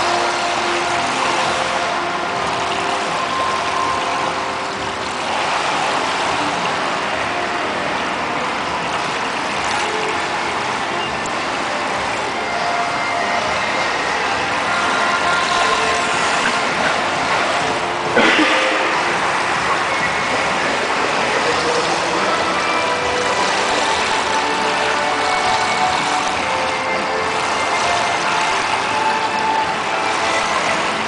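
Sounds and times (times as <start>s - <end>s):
swimming pool hall noise: 0.0s - 31.0s.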